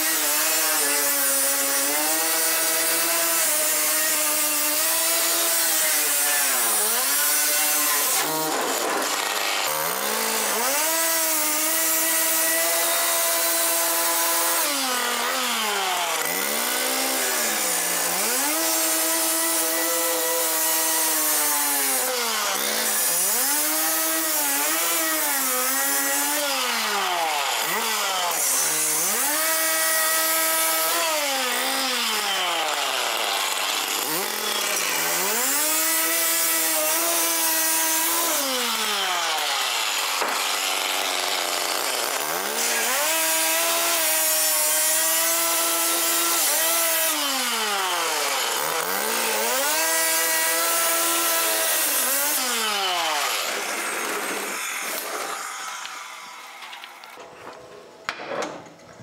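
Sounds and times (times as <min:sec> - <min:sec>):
cut-off saw grinding through metal: 0:00.0 - 0:57.3.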